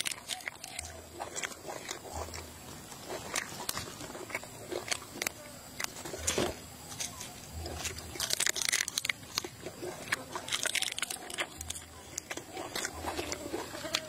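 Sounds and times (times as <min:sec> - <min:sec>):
crunching of bean pod being chewed: 0:00.0 - 0:14.0.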